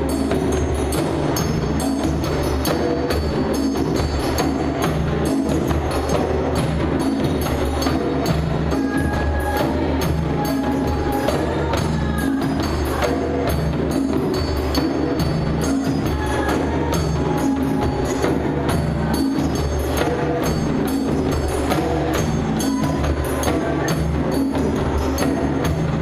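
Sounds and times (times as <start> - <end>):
percussion-driven music: 0.0 - 26.0.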